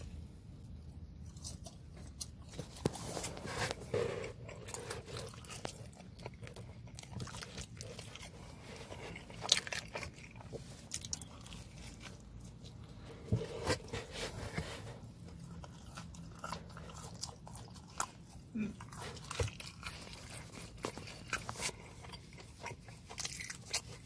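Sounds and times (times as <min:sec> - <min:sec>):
person chewing pizza: 0:00.0 - 0:24.0.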